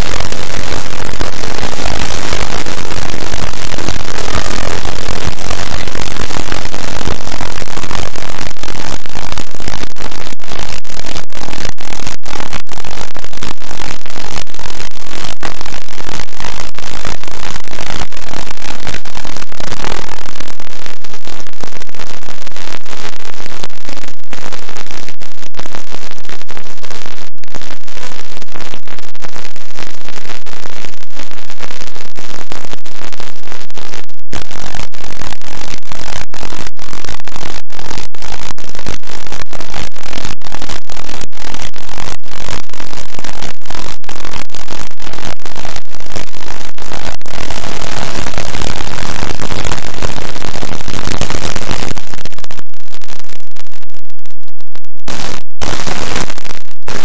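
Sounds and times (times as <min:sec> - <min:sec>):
harsh distorted noise: 0:00.0 - 0:57.0.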